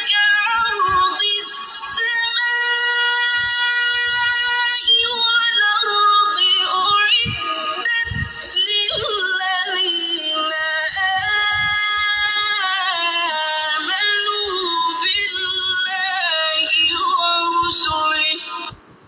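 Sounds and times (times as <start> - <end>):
melodic quran recitation: 0.0 - 18.8.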